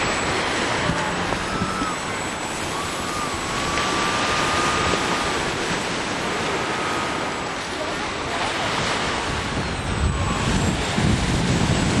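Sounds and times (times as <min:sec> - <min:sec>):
model plane motor whine: 0:00.0 - 0:12.0
surf: 0:00.0 - 0:12.0
wind on microphone: 0:00.0 - 0:12.0.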